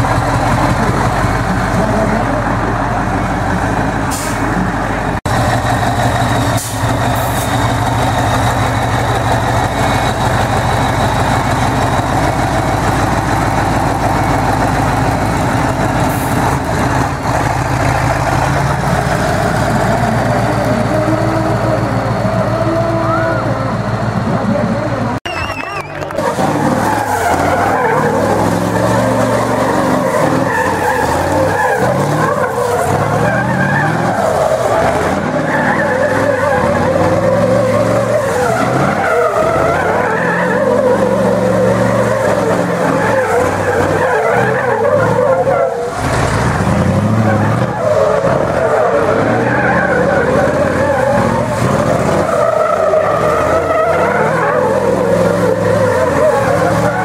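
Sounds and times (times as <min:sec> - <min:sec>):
diesel engine revving: 0:00.0 - 0:57.0
tyres skidding and squealing: 0:00.0 - 0:57.0.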